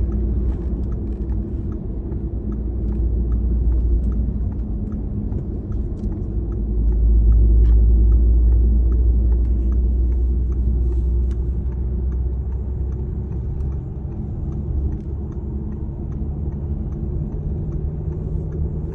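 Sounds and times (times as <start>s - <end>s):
faint light ticks: 0.0s - 18.9s
vehicle rumbling: 0.0s - 18.9s.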